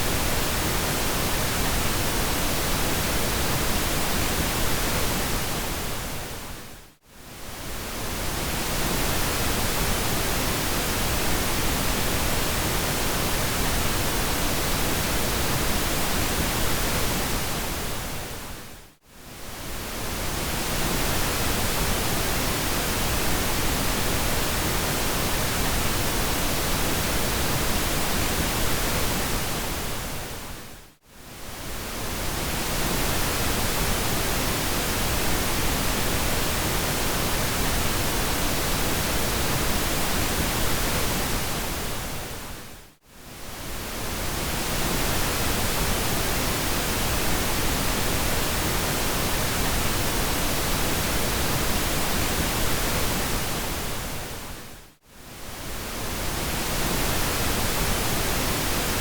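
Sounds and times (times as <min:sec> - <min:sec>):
pink noise hiss: 0:07.3 - 0:59.0.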